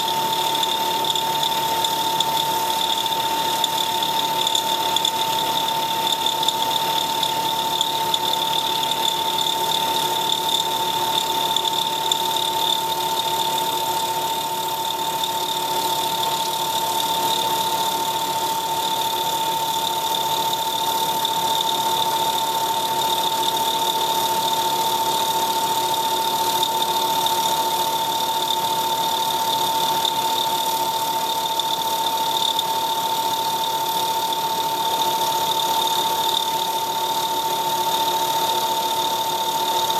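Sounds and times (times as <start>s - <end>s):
milling machine spindle whine: 0.0s - 39.9s.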